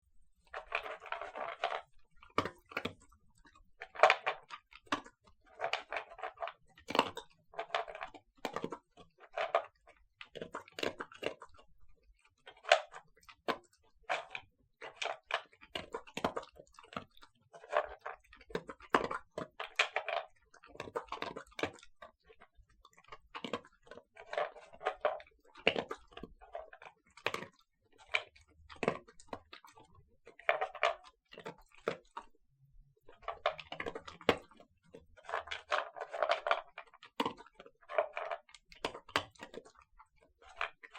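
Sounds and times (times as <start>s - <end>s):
dog crunching dry kibble: 0.4s - 32.4s, 33.0s - 40.9s.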